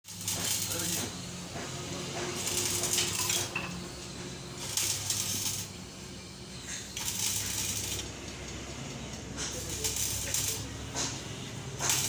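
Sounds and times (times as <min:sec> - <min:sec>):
arc welding crackling hiss: 0:00.0 - 0:12.0.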